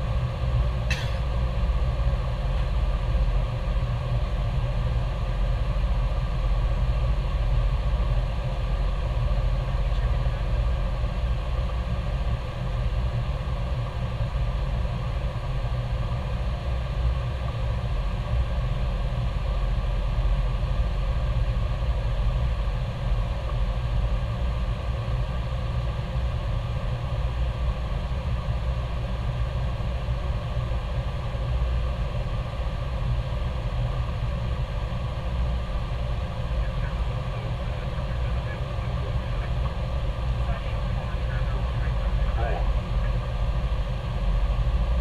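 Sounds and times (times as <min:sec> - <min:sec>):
aircraft cabin rumble: 0:00.0 - 0:45.0
steady hum: 0:00.0 - 0:45.0.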